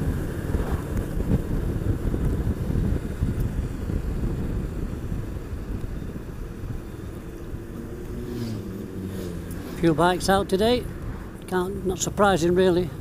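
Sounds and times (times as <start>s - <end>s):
motorcycle engine rumble: 0.0s - 13.0s
wind rush on microphone: 0.0s - 13.0s.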